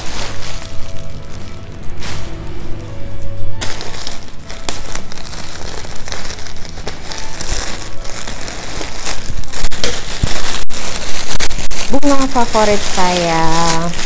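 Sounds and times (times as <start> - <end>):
plastic mailer bag crinkling: 0.0 - 14.0.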